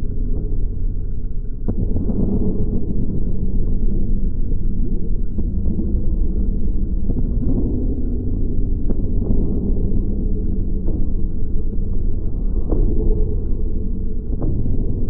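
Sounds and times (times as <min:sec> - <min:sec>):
deep rumbling drone: 0:00.0 - 0:15.0.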